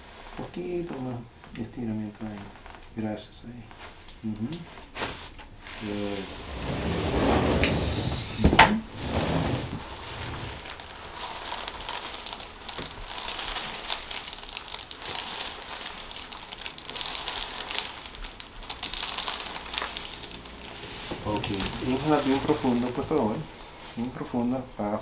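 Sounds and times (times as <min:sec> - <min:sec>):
rustling on treatment table: 0:04.6 - 0:24.8.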